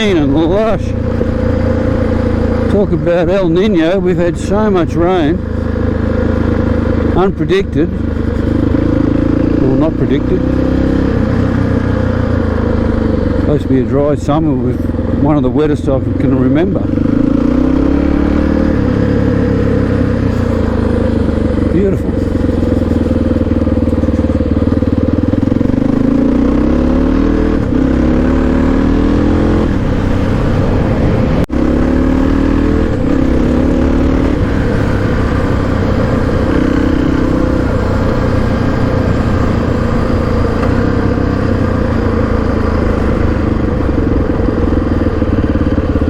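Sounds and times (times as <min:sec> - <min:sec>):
motorcycle engine: 0:00.0 - 0:46.0
wind and road noise: 0:00.0 - 0:46.0.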